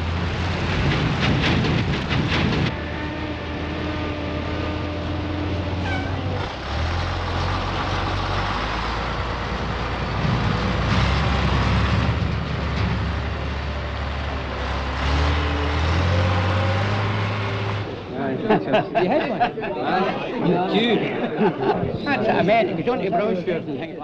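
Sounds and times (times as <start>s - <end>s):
truck diesel engine drone: 0.0s - 22.4s.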